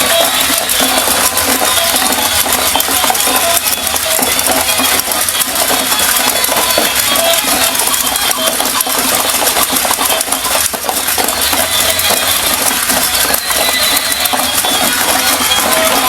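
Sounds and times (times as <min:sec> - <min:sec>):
toy motor and gears rattling: 0:00.0 - 0:16.0.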